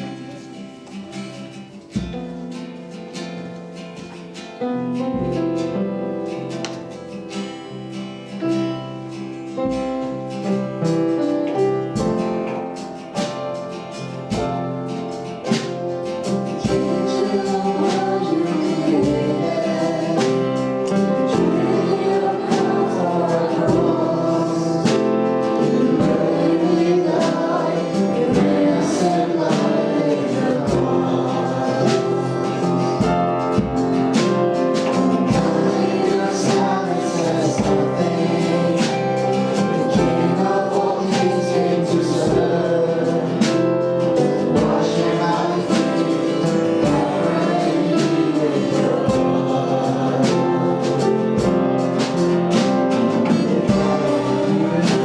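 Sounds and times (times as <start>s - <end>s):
group singing: 0.0s - 2.5s, 8.4s - 55.0s
band with guitar playing: 0.0s - 55.0s.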